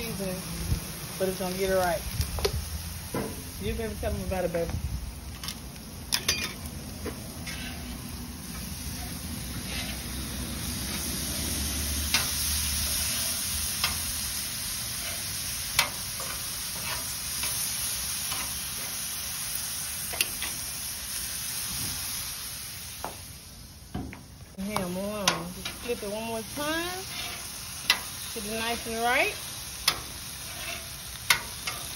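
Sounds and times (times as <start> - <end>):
meat sizzling on griddle: 0.0 - 31.9.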